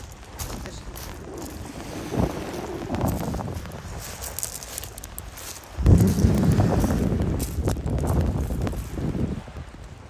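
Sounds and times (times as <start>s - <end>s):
footsteps on pebbles: 0.0s - 9.6s
wind buffeting microphone: 0.0s - 10.0s.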